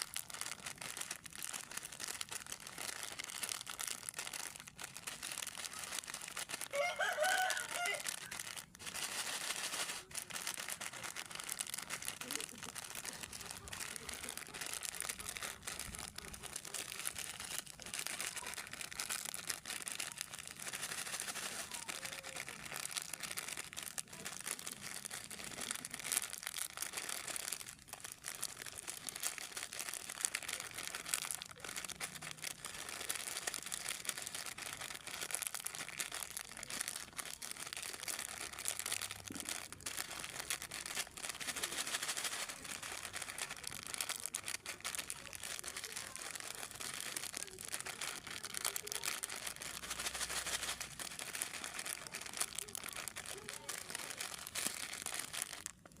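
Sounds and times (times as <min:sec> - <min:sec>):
plastic wrappers crinkling: 0:00.0 - 0:56.0.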